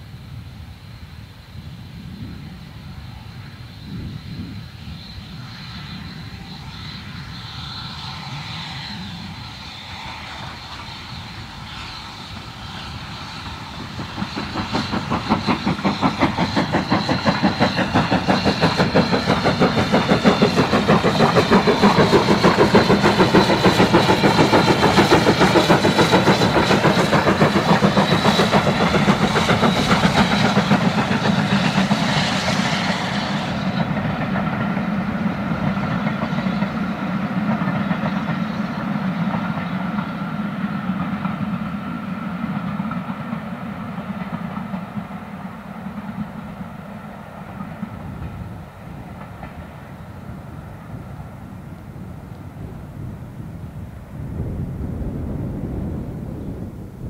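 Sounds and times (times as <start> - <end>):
steam locomotive chuffing: 0.0 - 54.6.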